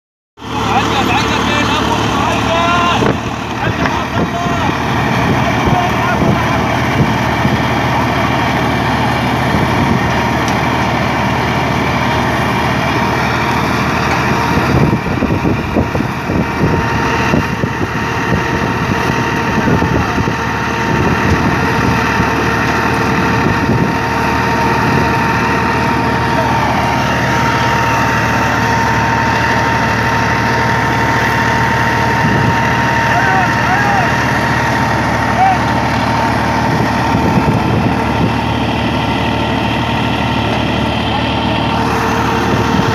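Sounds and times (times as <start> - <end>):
thin steady whine: 0.4 - 42.9
tractor engine and thresher drone: 0.4 - 42.9.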